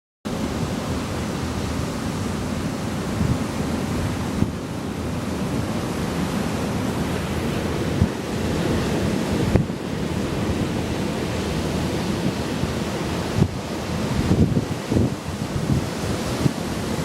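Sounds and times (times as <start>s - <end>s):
ocean surf breaking: 0.3s - 17.0s
wind on microphone: 0.3s - 17.0s.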